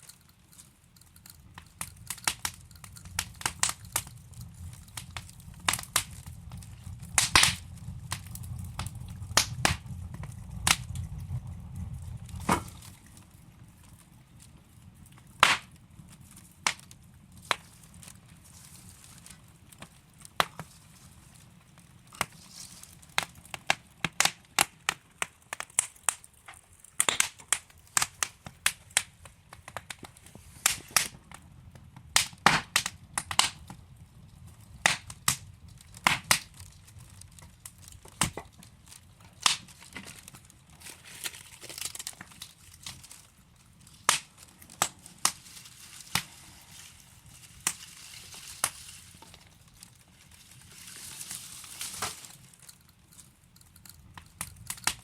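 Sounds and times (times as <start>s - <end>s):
logs crackling and popping: 0.0s - 55.0s
low steady fire hiss: 0.0s - 55.0s.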